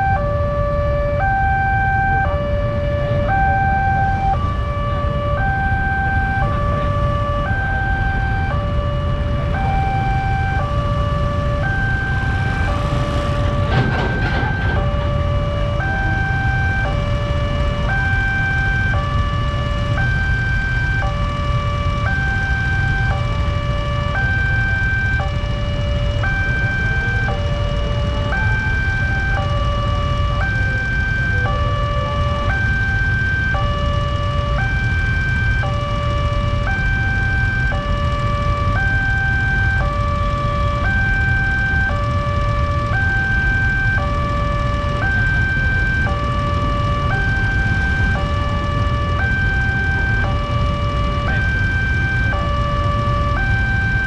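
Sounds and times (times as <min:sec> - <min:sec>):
two-tone crossing alarm: 0:00.0 - 0:54.0.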